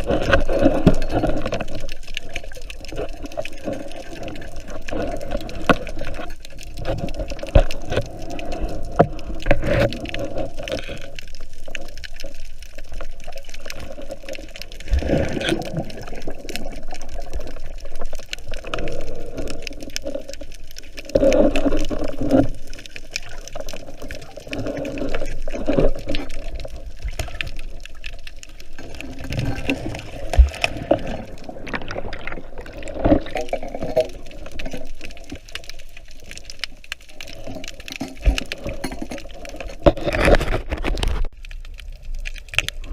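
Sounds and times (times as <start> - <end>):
water sloshing and bubbling: 0.0 - 42.9.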